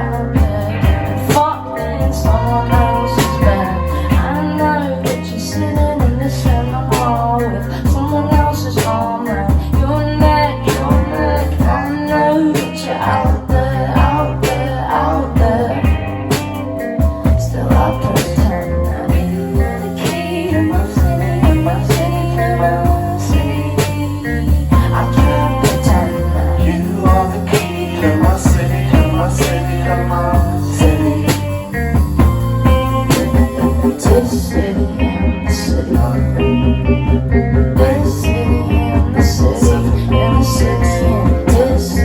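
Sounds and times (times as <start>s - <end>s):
bass notes: 0.0s - 42.0s
guitar chords: 0.0s - 42.0s
live rock band playing: 0.0s - 42.0s
steady drum beat: 0.0s - 42.0s.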